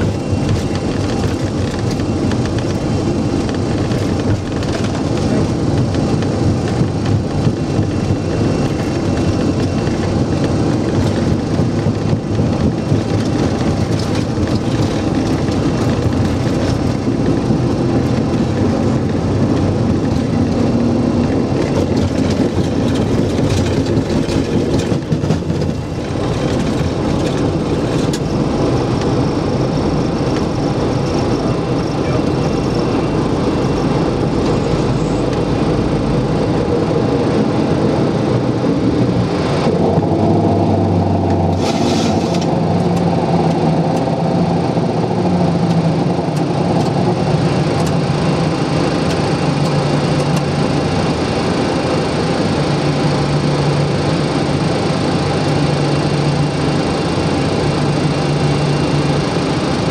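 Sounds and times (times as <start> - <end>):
jet engines at take-off thrust: 0.0 - 59.9
wheels rumbling on runway: 0.0 - 59.9.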